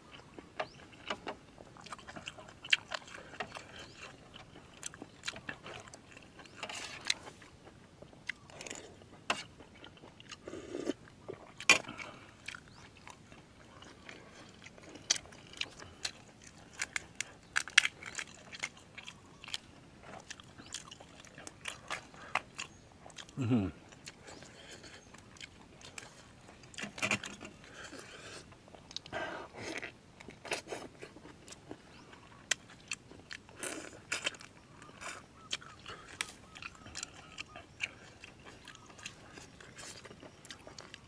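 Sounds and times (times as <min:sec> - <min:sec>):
person chewing and crunching food: 0:00.0 - 0:41.0.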